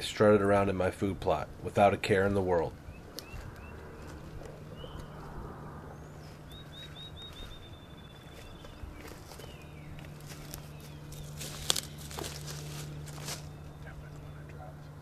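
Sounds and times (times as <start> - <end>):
faint low hum: 0.0 - 15.0
songbirds chirping: 0.0 - 15.0.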